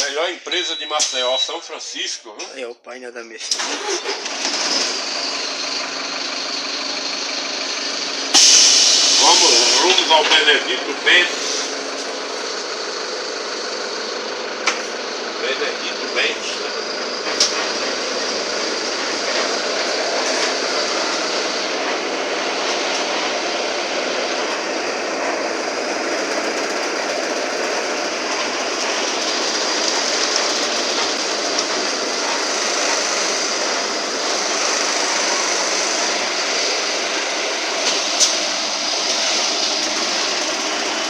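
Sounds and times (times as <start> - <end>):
bus engine and road noise: 0.0 - 2.6, 3.4 - 41.0.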